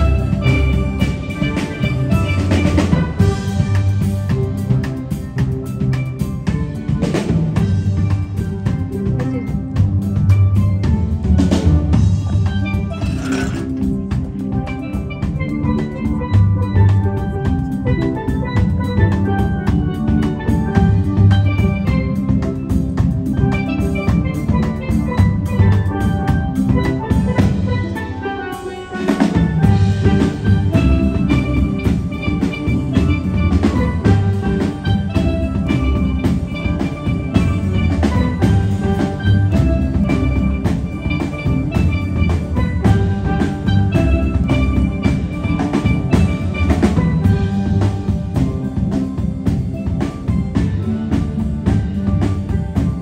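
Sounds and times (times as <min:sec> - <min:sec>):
steel pan ensemble playing: 0:00.0 - 0:53.0.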